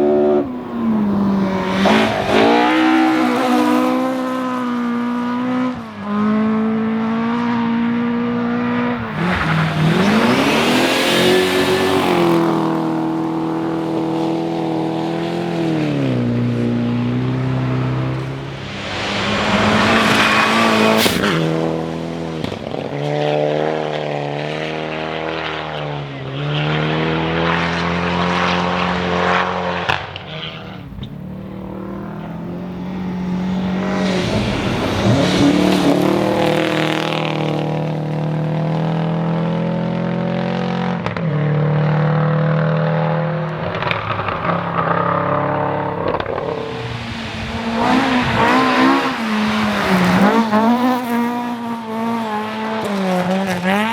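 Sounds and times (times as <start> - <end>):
rally car engines revving past: 0.0 - 53.9.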